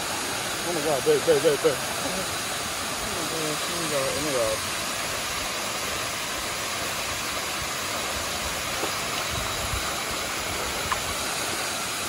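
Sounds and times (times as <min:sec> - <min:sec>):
waterfall pouring into rock pool: 0:00.0 - 0:12.0.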